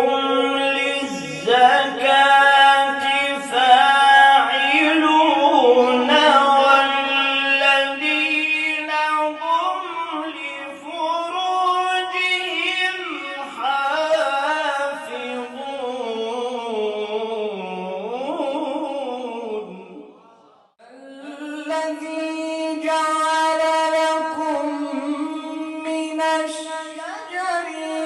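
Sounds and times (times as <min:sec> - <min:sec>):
person singing a lament: 0:00.0 - 0:28.0.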